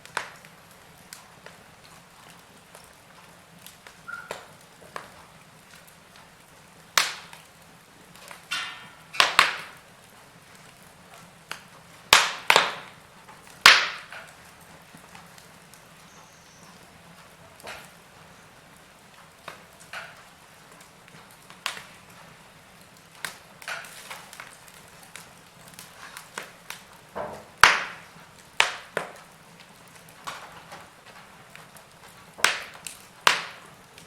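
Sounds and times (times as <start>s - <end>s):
faint steady hiss: 0.0s - 34.0s
wood fire crackling: 0.0s - 34.0s.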